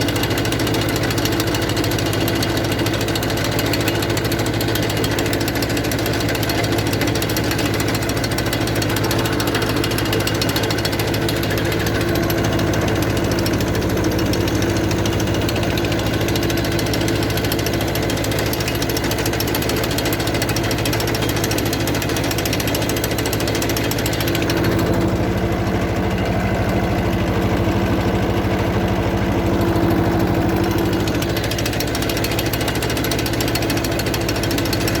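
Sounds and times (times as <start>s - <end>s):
tractor diesel engine rattling: 0.0s - 35.0s.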